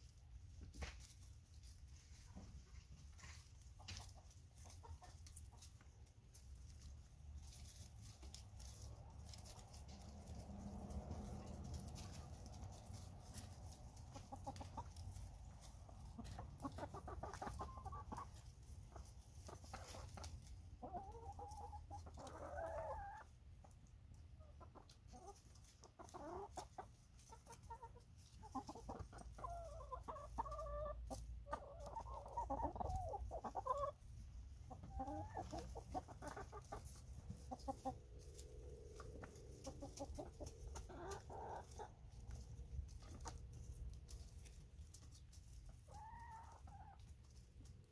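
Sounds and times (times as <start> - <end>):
hens clucking: 0.0 - 47.9
hens pecking: 0.0 - 47.9.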